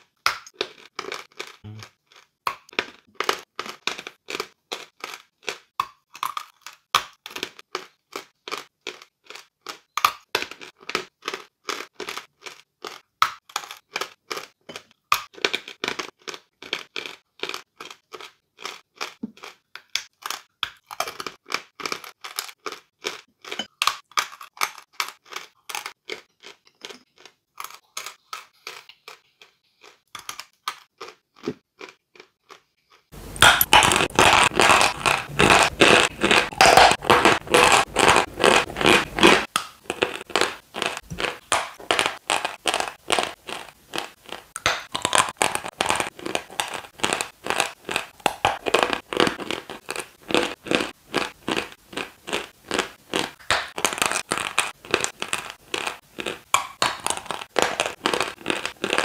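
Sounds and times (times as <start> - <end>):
chalk being chewed crunching: 0.4 - 59.0.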